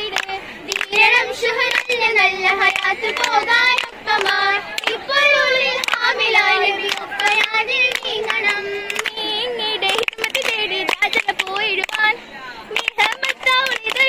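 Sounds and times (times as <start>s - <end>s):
hand claps: 0.0s - 5.0s, 5.8s - 9.2s, 9.8s - 14.0s
girls singing in chorus: 0.0s - 14.0s.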